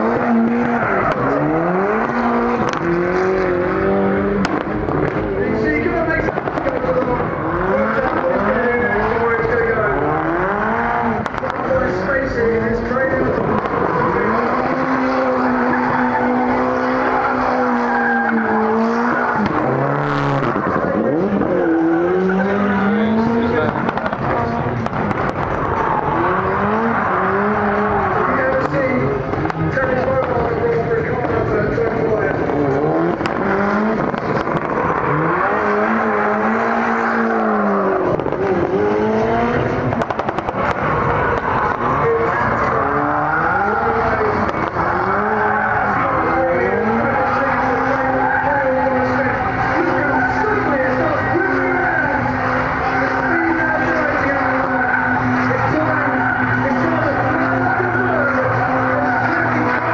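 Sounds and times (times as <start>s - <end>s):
turbocharged car engine revving: 0.0s - 59.9s
exhaust popping cracks: 4.3s - 59.9s
tyres squealing: 5.0s - 40.0s, 40.6s - 59.9s.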